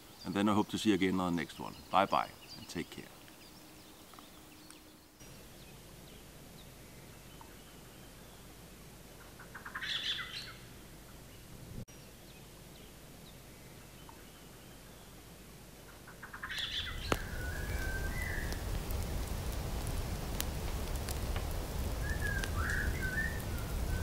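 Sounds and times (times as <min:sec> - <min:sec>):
small songbirds chirping: 0:00.0 - 0:19.4, 0:20.3 - 0:24.0.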